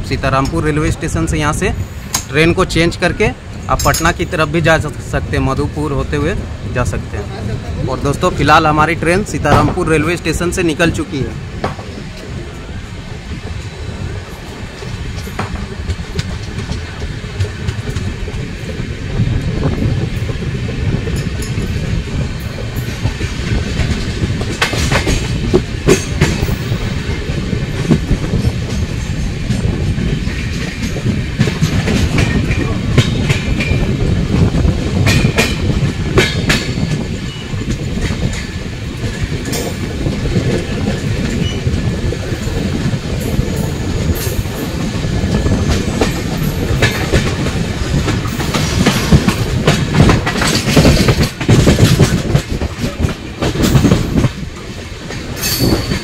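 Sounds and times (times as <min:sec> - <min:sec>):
train coaches rumbling: 0:00.0 - 0:56.0
wheels clacking over rail joints: 0:11.1 - 0:56.0.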